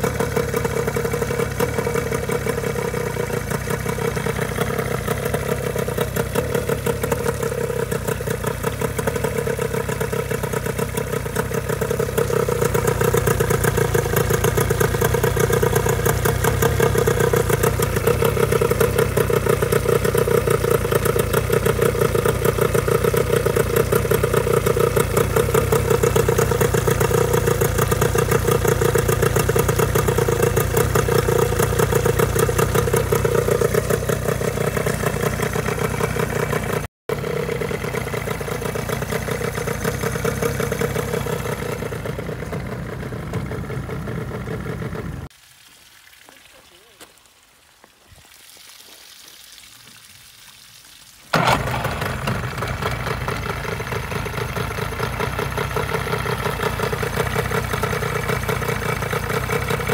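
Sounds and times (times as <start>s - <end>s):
water spraying: 0.0s - 36.8s, 44.2s - 59.9s
outboard engine running: 0.0s - 45.3s, 51.3s - 59.9s.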